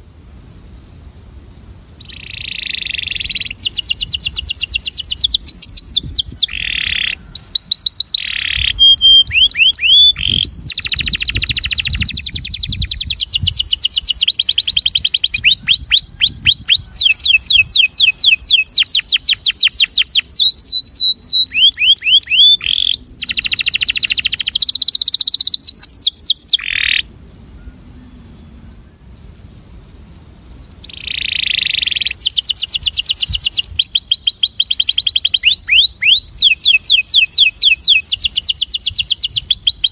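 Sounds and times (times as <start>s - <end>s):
canary singing trills: 2.0s - 39.9s.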